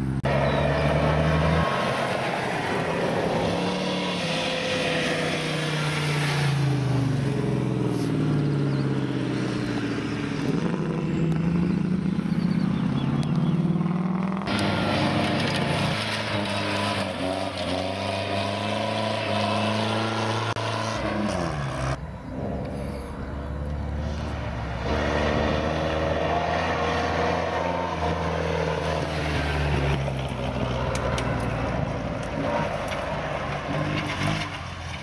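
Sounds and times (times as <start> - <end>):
sports car engine passing: 0.0 - 34.8
car engine accelerating: 0.0 - 35.0.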